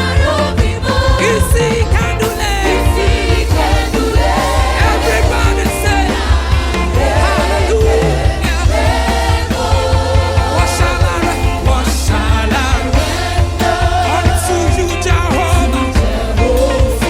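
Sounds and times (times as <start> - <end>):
choir singing: 0.0 - 17.0
live band bass and drums: 0.0 - 17.0.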